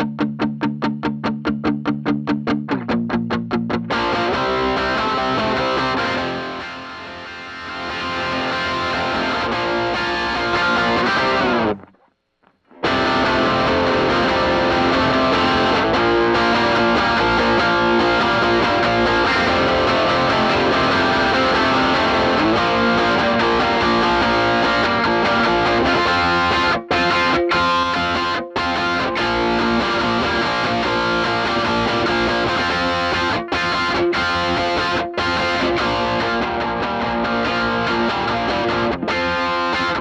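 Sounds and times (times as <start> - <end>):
distorted electric guitar: 0.0 - 40.0.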